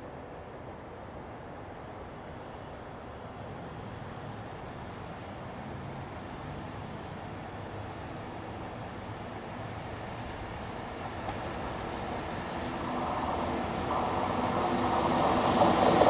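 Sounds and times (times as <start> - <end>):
electric locomotive rumbling: 0.2 - 16.0.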